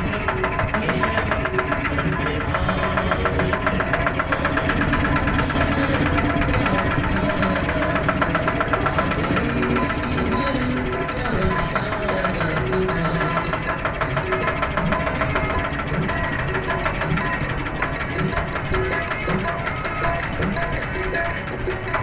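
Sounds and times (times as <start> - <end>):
motorboat engine knocking: 0.0 - 22.0.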